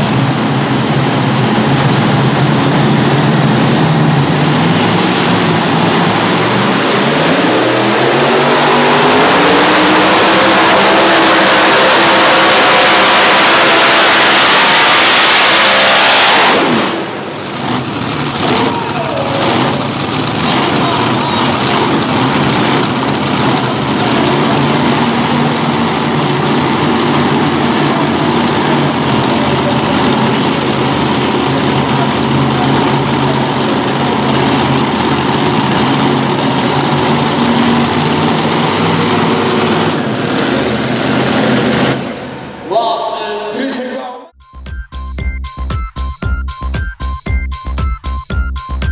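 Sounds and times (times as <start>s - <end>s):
pulling tractor engines: 0.0s - 42.7s.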